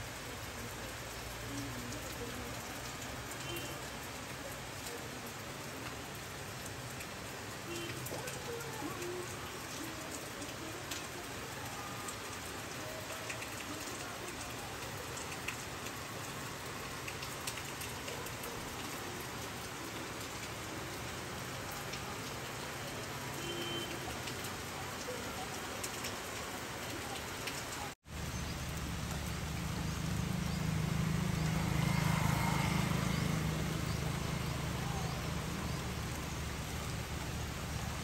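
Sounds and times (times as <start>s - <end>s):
rain on wet concrete: 0.0s - 38.0s.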